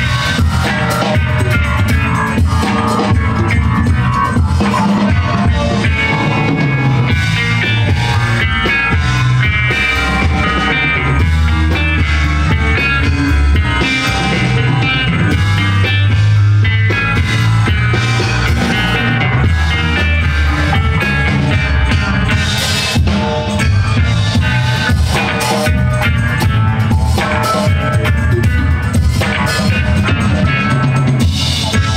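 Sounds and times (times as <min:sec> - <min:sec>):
live rock band playing: 0:00.0 - 0:31.9
strong bass line: 0:00.0 - 0:31.9.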